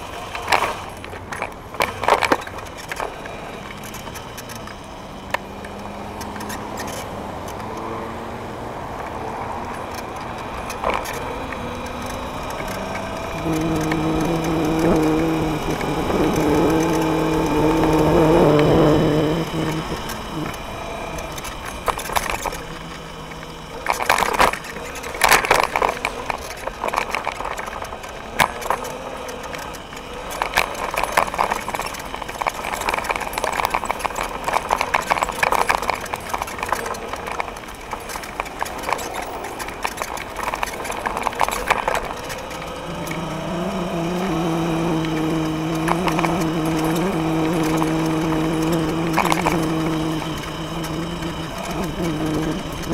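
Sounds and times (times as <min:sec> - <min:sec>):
electric scooter motor hum: 0:00.0 - 0:52.9
scooter rattling on rough path: 0:00.0 - 0:52.9.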